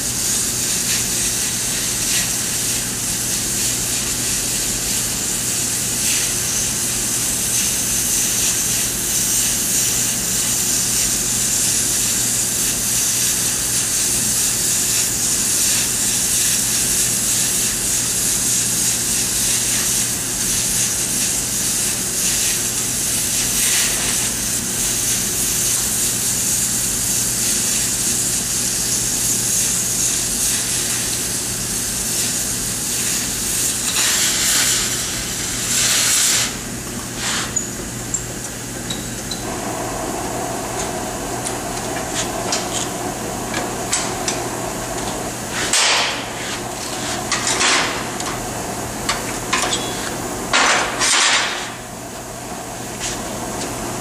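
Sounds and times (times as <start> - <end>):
cutting torch hissing: 0.0 - 37.8, 39.2 - 54.0.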